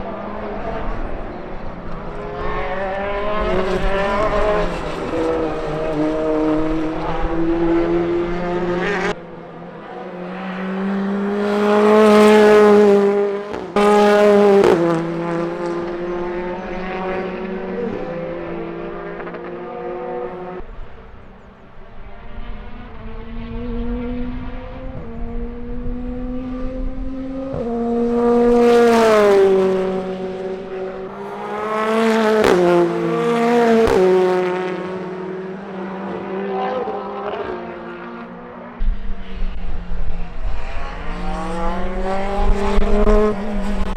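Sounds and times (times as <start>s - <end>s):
racing cars passing at speed: 0.0s - 43.9s.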